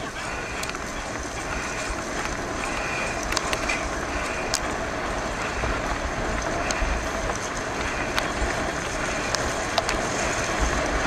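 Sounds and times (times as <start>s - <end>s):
bike clicks and rattles: 0.0s - 11.0s
bike tyres on wet gravel: 0.0s - 11.0s.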